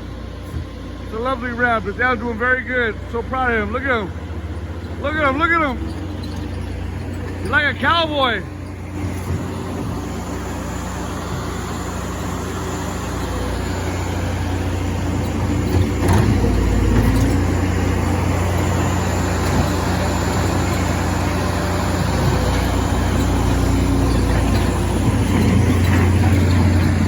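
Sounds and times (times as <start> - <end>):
skid steer engine running: 0.0 - 27.0.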